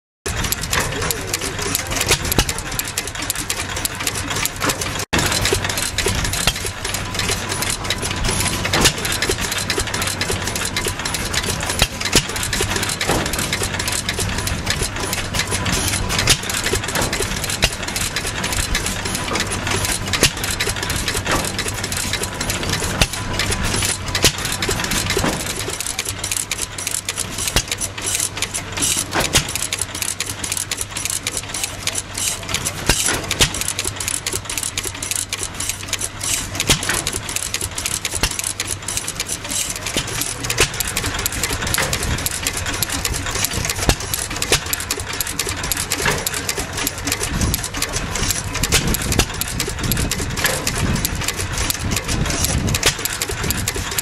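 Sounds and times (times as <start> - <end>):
single-cylinder engine running: 0.2 - 54.0
valve gear clattering clicks: 0.3 - 54.0.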